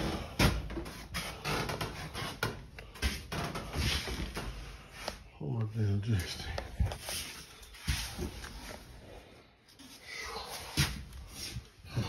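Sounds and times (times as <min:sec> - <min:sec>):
knocks and scuffs in shed: 0:00.0 - 0:09.0, 0:09.7 - 0:12.0.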